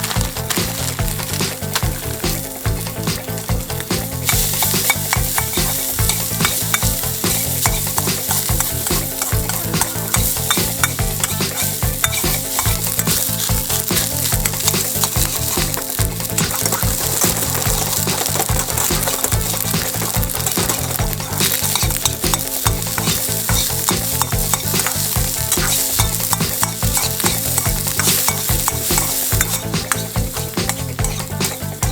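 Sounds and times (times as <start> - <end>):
rice sizzling in a wok: 0.0 - 31.9
utensil scraping a pan: 0.0 - 31.9.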